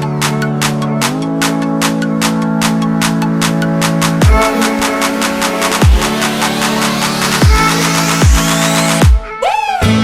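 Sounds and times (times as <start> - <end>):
electronic dance music: 0.0 - 9.9.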